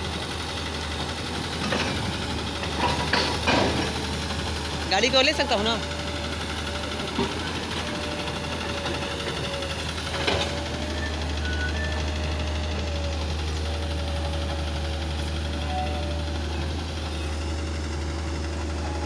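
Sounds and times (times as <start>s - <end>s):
diesel engines clattering: 0.0s - 19.0s.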